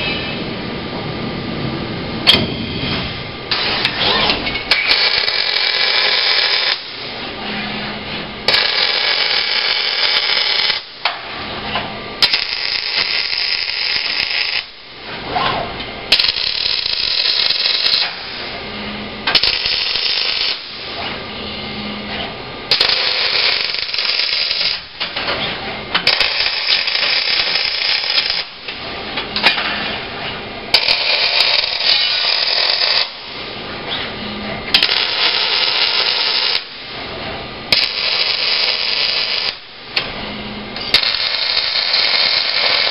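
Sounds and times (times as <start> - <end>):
welding arc buzzing: 2.0 - 7.4, 8.4 - 11.2, 12.2 - 15.1, 16.0 - 21.8, 22.6 - 25.2, 25.8 - 33.9, 34.6 - 37.0, 37.6 - 42.9.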